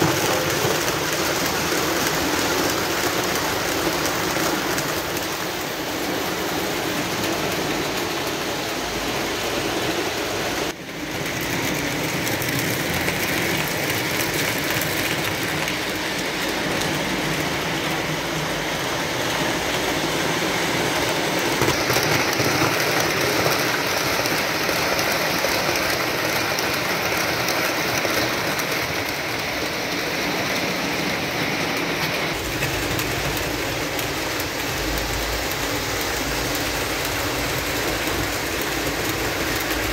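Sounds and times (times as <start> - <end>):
model train wheels rolling on rails: 0.0 - 39.9.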